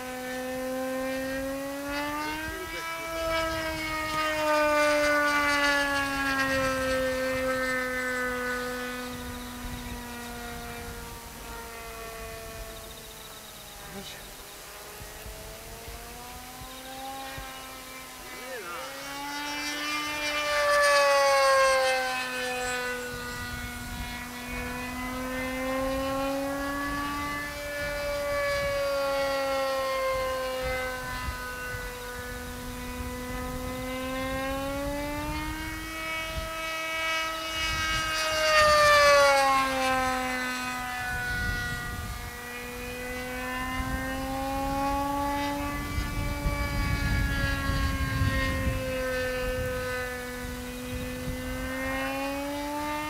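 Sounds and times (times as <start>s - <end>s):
model plane engine flying past: 0.0s - 53.0s.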